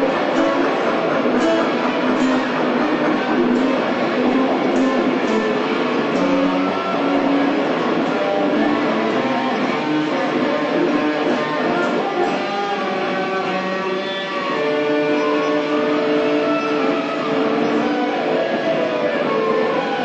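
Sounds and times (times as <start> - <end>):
guitar and electronics noisy wash: 0.0 - 20.0.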